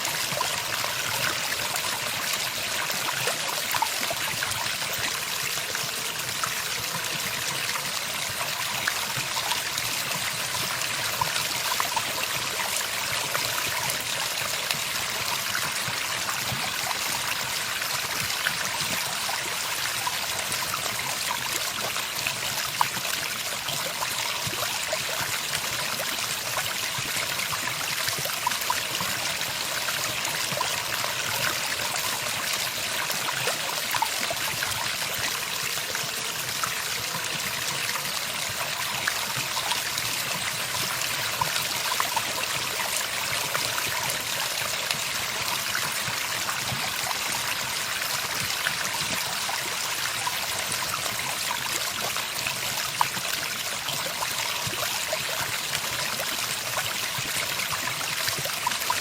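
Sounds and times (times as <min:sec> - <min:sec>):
running water trickling: 0:00.0 - 0:59.0.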